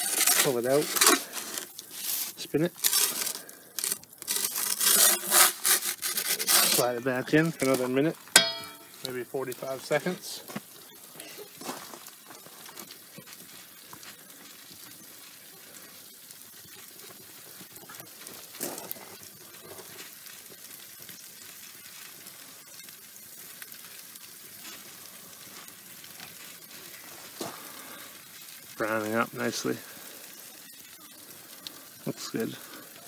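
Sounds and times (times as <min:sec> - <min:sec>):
burning wood crackles: 0:00.0 - 0:33.0
pizza sizzling hiss: 0:00.0 - 0:33.0.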